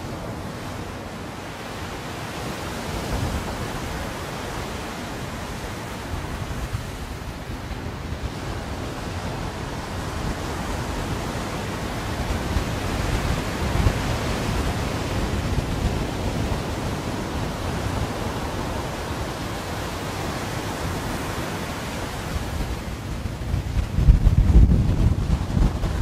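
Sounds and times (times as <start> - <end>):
sea waves breaking on beach: 0.0 - 26.0
wind rumbling on microphone: 0.0 - 26.0.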